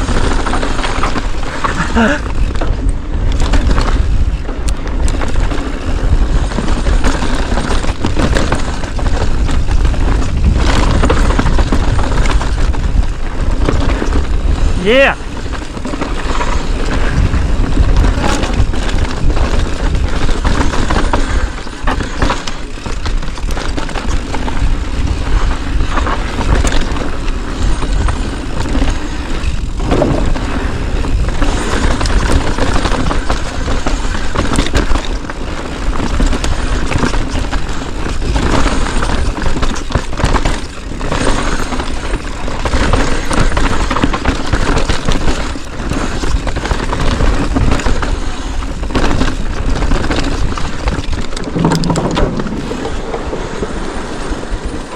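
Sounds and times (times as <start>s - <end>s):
bike knocking and rattling: 0.0s - 54.9s
tyres rumbling over dirt and rock: 0.0s - 54.9s
wind buffeting microphone: 0.0s - 54.9s.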